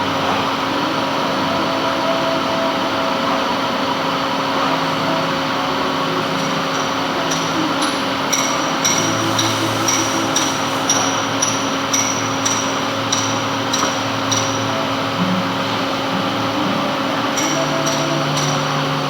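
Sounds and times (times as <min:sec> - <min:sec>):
metal lathe humming: 0:00.0 - 0:19.0.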